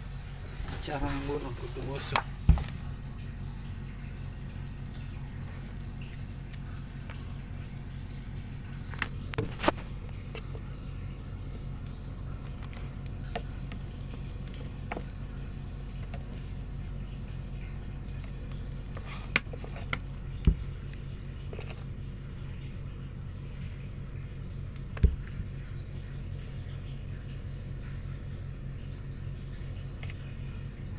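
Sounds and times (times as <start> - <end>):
low machinery hum: 0.0 - 30.9.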